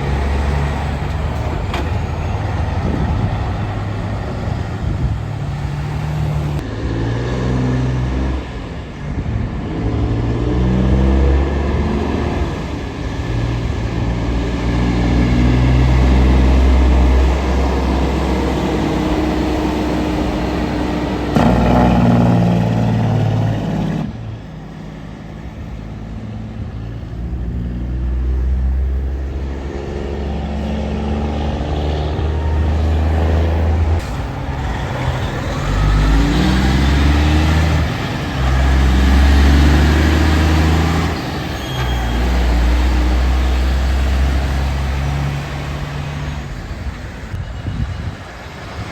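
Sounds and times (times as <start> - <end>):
heavy truck diesel engines passing: 0.0 - 48.9.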